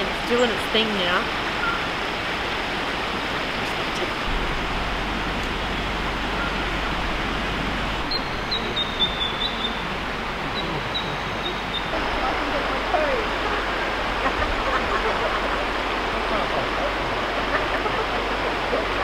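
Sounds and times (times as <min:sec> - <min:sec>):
creek water flowing over rocks: 0:00.0 - 0:19.0.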